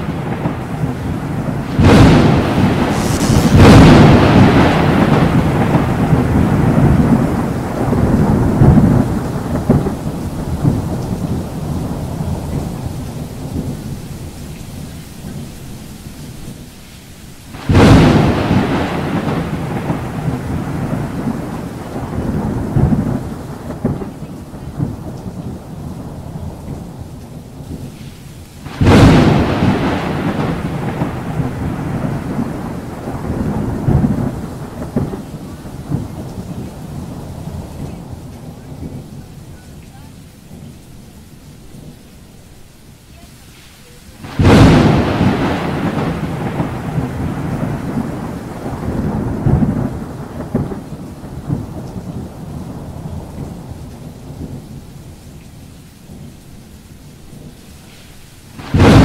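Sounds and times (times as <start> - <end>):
thunder rumbling and cracking: 0.0 - 16.7, 17.5 - 39.6, 44.2 - 55.3, 57.3 - 59.0
heavy rain: 0.0 - 59.0.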